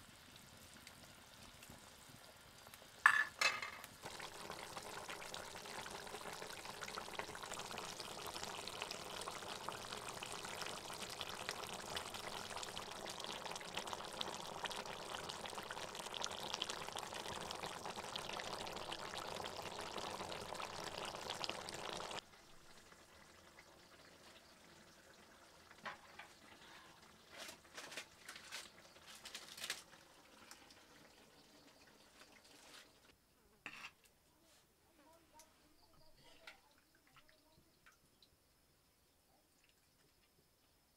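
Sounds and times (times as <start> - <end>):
fish bubbling and sizzling in a wok: 0.0 - 34.0.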